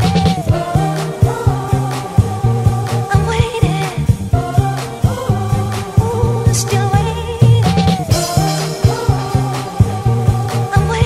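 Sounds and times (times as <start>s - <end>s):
disco house music: 0.0s - 11.0s.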